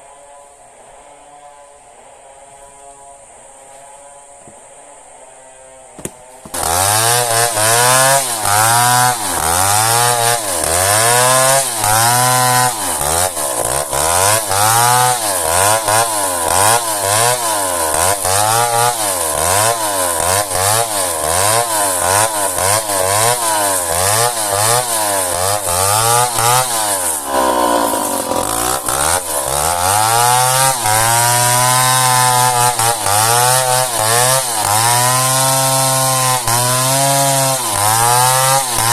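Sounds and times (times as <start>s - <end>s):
chainsaw cutting wood: 6.0s - 38.9s.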